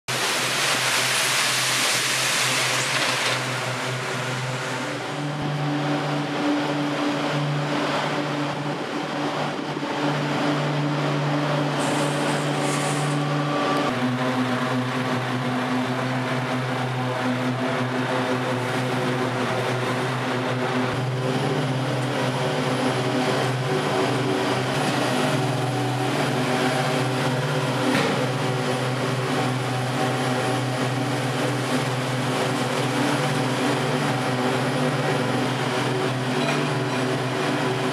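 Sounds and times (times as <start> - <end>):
heavy diesel machinery droning: 0.1 - 37.9.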